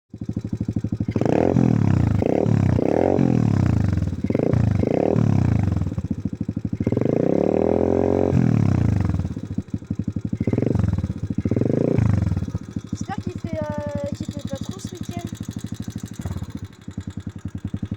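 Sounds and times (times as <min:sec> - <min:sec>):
dirt bike engine revving: 0:00.2 - 0:17.9.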